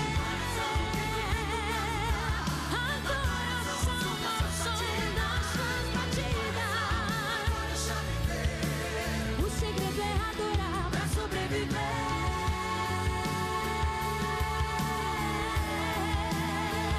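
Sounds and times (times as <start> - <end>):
backing music with bass and drums: 0.0 - 16.9
woman singing into microphone: 0.0 - 16.9.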